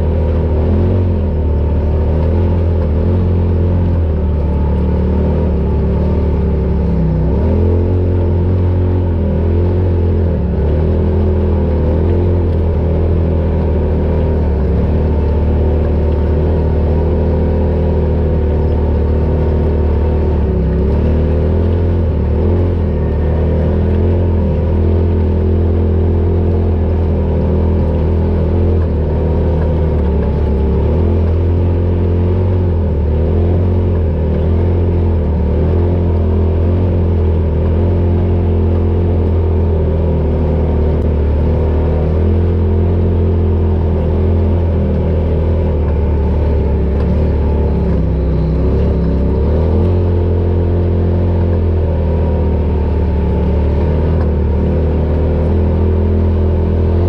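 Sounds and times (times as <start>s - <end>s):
off-road vehicle engine drone: 0.0s - 57.0s.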